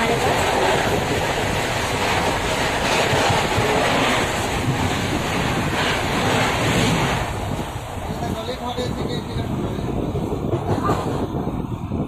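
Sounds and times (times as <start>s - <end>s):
rushing air: 0.0s - 12.0s
train rumbling: 0.0s - 12.0s.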